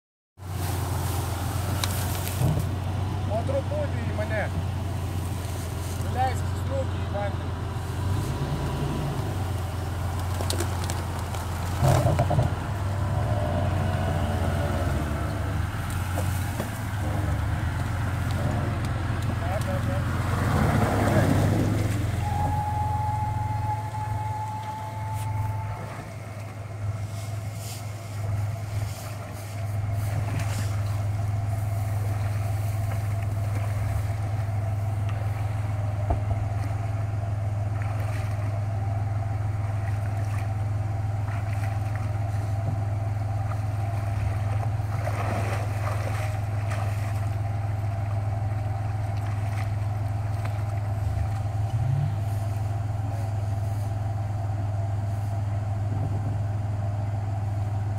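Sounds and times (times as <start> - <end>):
engine idling: 0.4 - 57.9.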